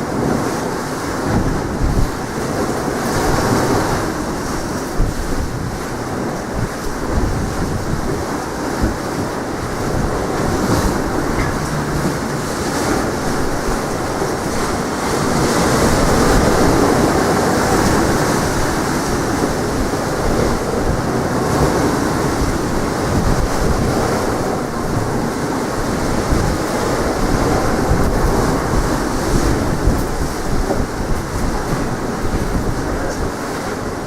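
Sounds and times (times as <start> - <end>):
sea waves washing ashore: 0.0 - 34.0
wind buffeting microphone: 0.0 - 34.0.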